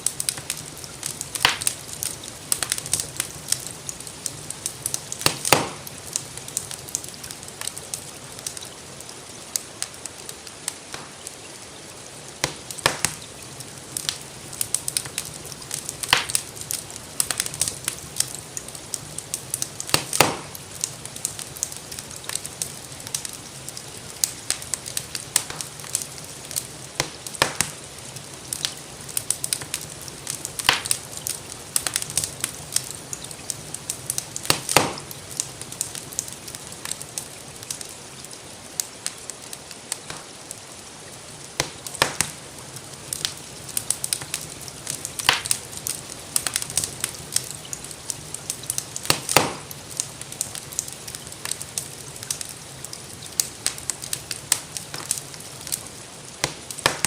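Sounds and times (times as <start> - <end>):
soft hiss of rain: 0.0 - 57.0
wood fire crackling: 0.0 - 57.0.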